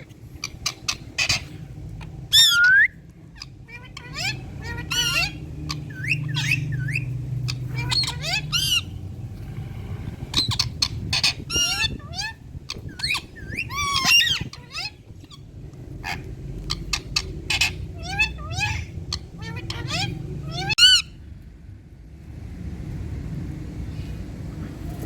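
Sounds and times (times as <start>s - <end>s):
parakeet squawks and chirps: 0.0s - 9.1s, 10.2s - 21.2s
steady low hum: 0.0s - 25.0s.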